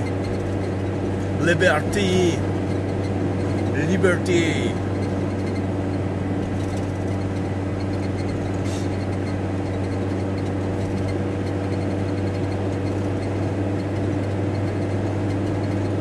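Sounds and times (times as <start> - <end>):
van engine and road noise: 0.0 - 16.0.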